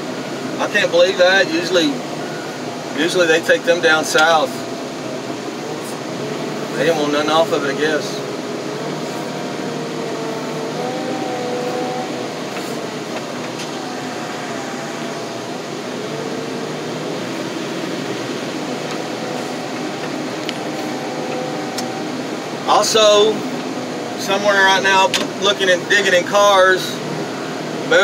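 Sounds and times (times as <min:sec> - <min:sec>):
loader engine and hydraulics: 0:00.0 - 0:28.0
wavering whine: 0:00.0 - 0:28.0.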